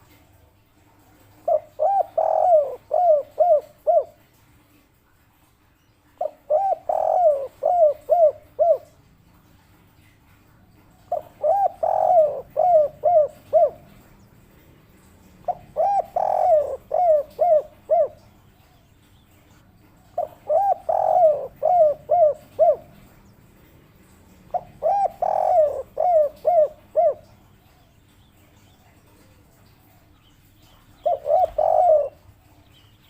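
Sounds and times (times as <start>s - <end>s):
dove cooing: 1.0s - 4.4s, 6.2s - 9.4s, 10.7s - 19.0s, 19.6s - 32.8s.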